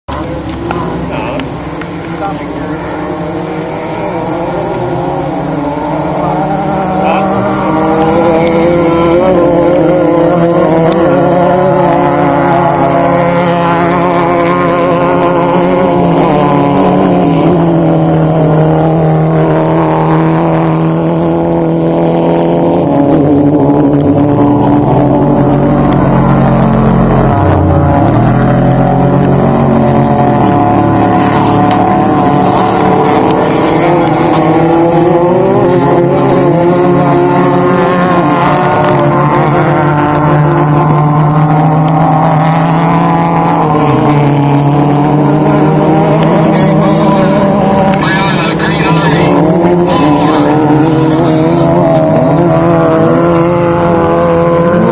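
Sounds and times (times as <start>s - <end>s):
race vehicle engines revving: 0.0s - 54.9s.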